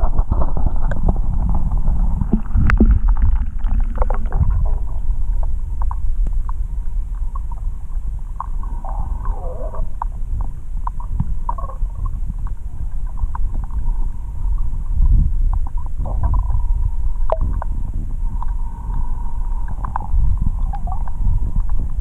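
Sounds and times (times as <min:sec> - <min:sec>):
bubbles gurgling: 0:00.0 - 0:22.0
underwater rumble of water: 0:00.0 - 0:22.0
underwater clicks: 0:00.1 - 0:07.7, 0:08.3 - 0:13.9, 0:14.5 - 0:22.0.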